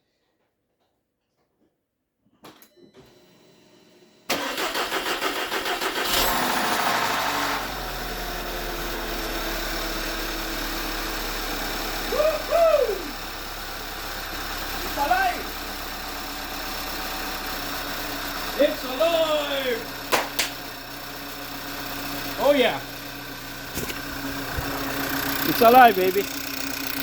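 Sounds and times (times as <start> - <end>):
engine cranking on starter: 2.9 - 27.0
engine revving and idling: 4.4 - 27.0.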